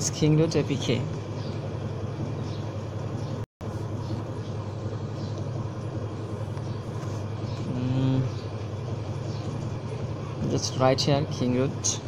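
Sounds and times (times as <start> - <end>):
low background hum with hiss: 0.0 - 12.0.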